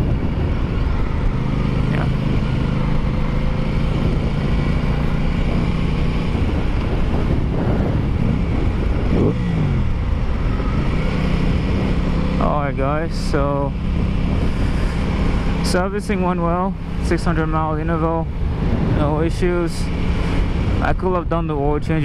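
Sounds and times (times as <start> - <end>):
motorcycle engine running: 0.0 - 22.0
road noise: 0.0 - 22.0
wind noise: 0.0 - 22.0.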